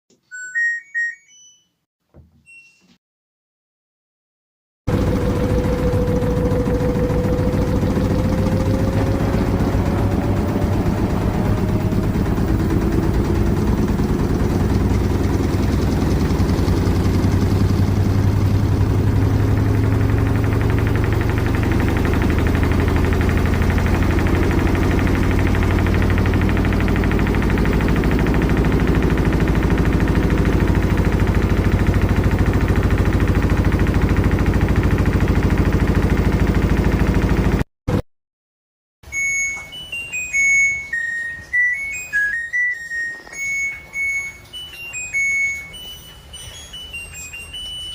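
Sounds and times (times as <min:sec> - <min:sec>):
washing machine hum and rumble: 0:04.9 - 0:38.0, 0:39.1 - 0:47.9.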